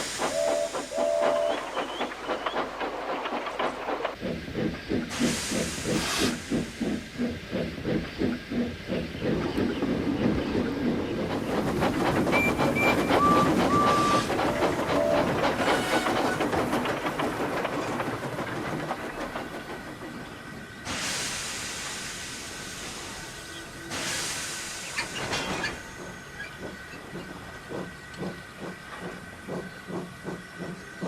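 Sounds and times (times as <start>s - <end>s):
steam hissing: 0.0s - 31.0s
steam locomotive chuffing: 0.0s - 31.0s.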